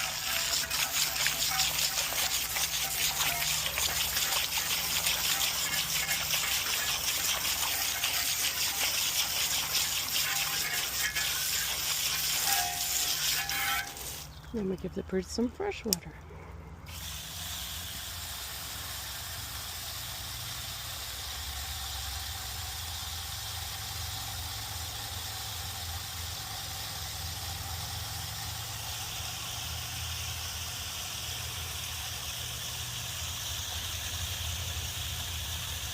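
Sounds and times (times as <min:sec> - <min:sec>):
hose water hissing: 0:00.0 - 0:14.4, 0:16.9 - 0:35.9.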